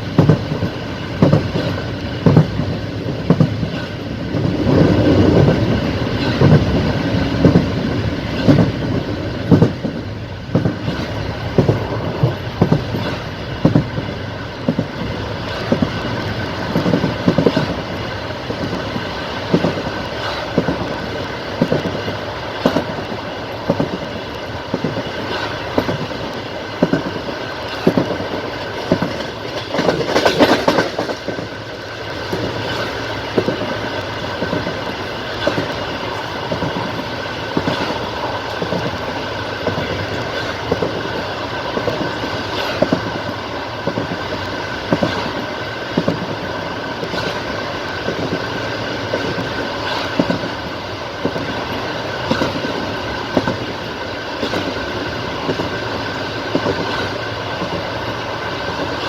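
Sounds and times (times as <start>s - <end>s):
rumble of moving train: 0.0s - 59.0s
train rushing: 0.0s - 59.0s
train wheels clickety-clack: 0.0s - 59.0s.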